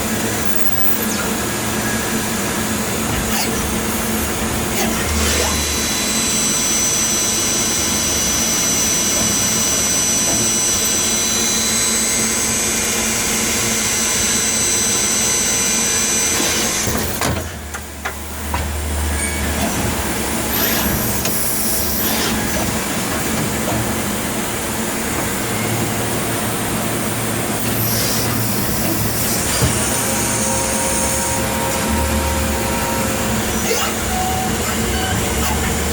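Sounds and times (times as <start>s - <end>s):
high steady whine: 0.0s - 16.9s, 20.2s - 35.9s
lathe machining noise: 0.0s - 17.2s, 17.8s - 35.9s.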